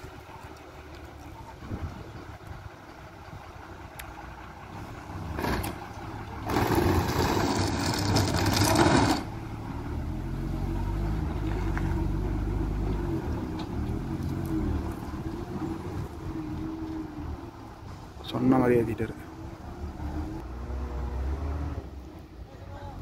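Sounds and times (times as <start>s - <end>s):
heavy diesel engines labouring: 0.0s - 23.0s.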